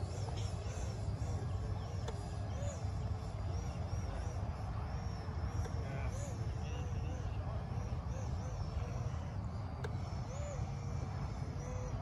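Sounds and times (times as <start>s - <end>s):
distant electric fan whine: 0.0s - 12.0s.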